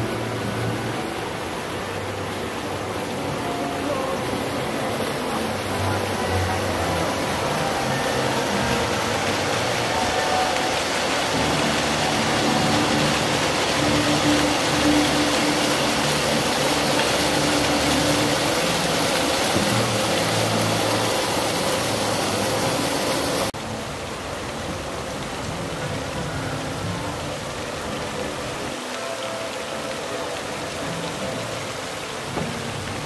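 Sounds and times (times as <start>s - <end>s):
fountain splashing into pond: 0.0s - 33.0s.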